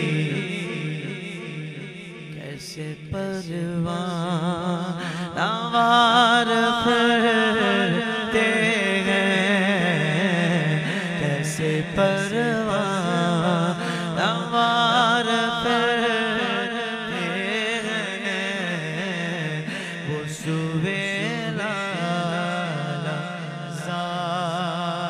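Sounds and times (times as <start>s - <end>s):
man chanting devotional song: 0.0s - 25.0s.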